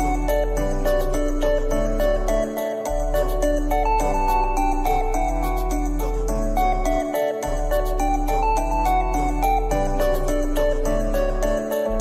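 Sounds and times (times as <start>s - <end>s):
light melody with bass line: 0.0s - 12.0s.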